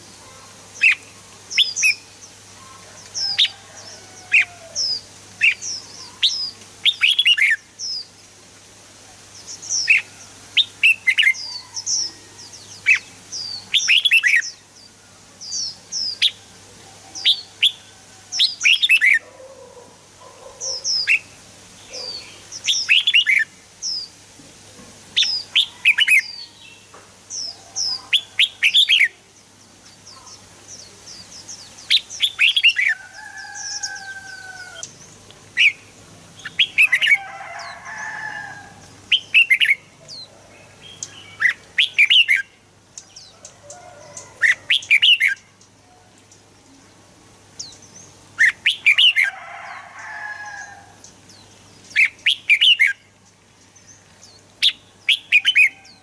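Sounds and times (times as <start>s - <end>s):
bird singing chirping phrases: 0.0s - 8.2s, 9.3s - 24.2s, 25.2s - 49.3s, 49.9s - 56.0s.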